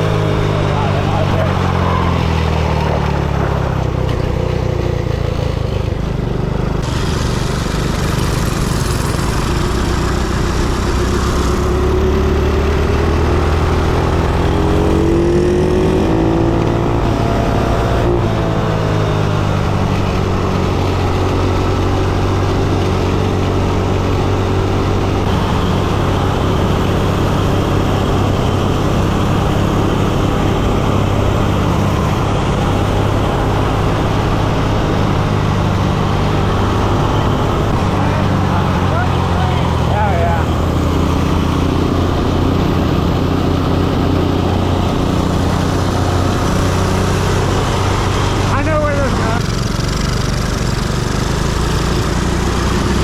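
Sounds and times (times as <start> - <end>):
minibike engine running: 0.0 - 53.0.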